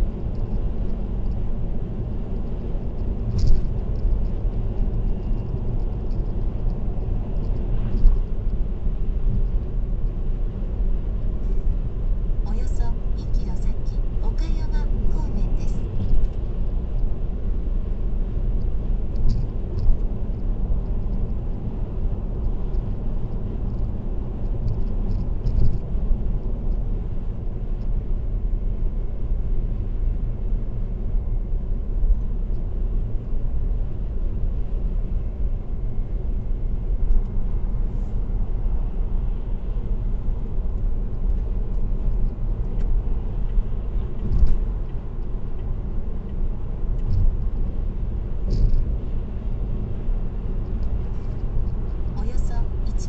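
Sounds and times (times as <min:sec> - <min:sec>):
car road rumble: 0:00.0 - 0:53.0.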